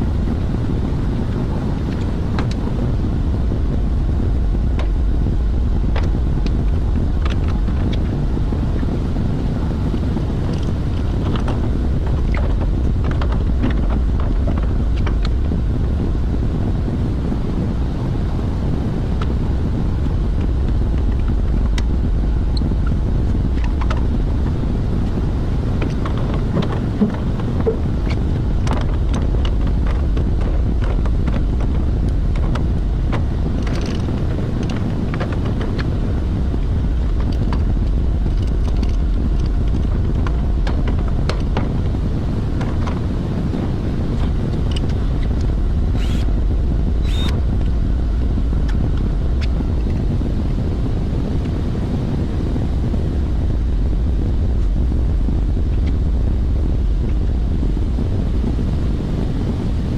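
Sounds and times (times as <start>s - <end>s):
industrial machinery rumbling: 0.0s - 59.9s.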